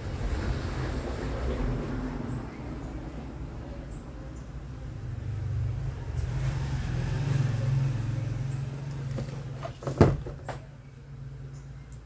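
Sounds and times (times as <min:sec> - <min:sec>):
vehicle engine passing by: 0:00.0 - 0:09.9.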